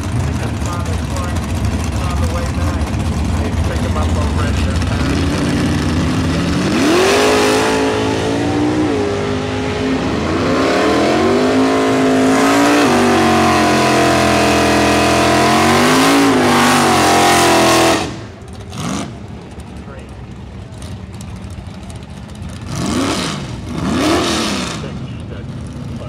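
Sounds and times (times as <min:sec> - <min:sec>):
car engine revving hard: 0:00.0 - 0:19.2, 0:22.6 - 0:25.2.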